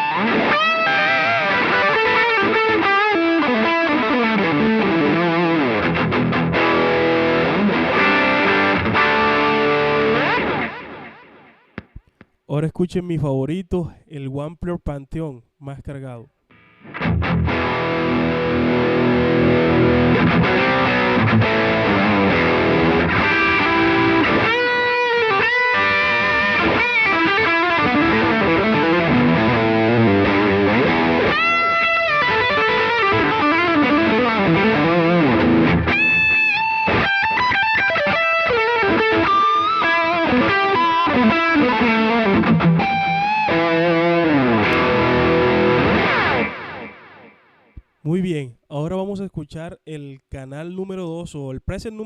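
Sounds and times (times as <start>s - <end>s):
distorted electric guitar: 0.0s - 12.2s, 16.5s - 47.9s.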